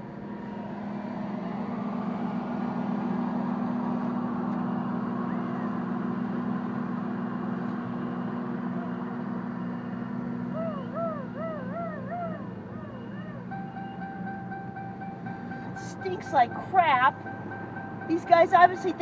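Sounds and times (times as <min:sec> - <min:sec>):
diesel machinery engine hum: 0:00.0 - 0:19.0.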